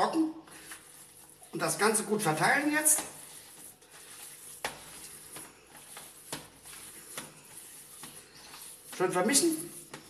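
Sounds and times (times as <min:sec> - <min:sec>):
hands kneading wet minced meat: 0:00.0 - 0:10.0.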